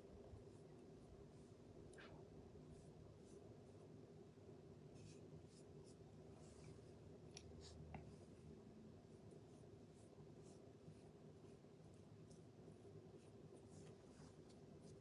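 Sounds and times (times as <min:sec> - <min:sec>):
low room hum: 0:00.0 - 0:15.0
paintbrush strokes on wood: 0:00.3 - 0:03.9, 0:04.9 - 0:15.0.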